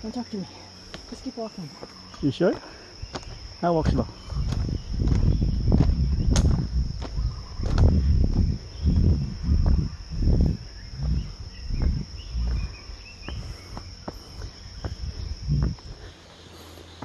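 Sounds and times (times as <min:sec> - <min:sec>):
high insect trill: 0:00.0 - 0:17.0
footsteps on stony dirt trail: 0:00.8 - 0:17.0.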